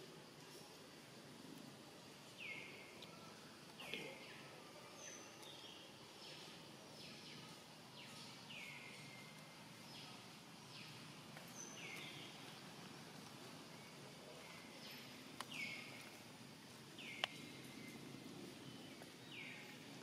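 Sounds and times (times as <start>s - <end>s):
forest ambience: 0.0s - 20.0s.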